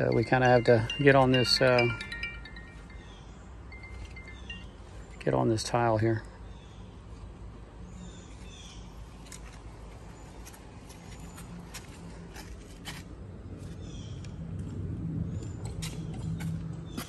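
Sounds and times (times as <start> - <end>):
birds chirping: 0.0 - 12.3, 13.6 - 14.4, 15.2 - 17.0.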